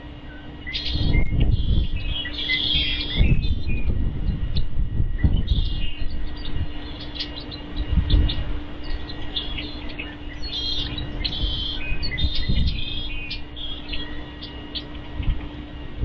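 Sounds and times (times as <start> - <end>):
birds chirping: 0.0 - 16.0
faint steady hum: 0.0 - 16.0
low rumbles: 0.0 - 16.0.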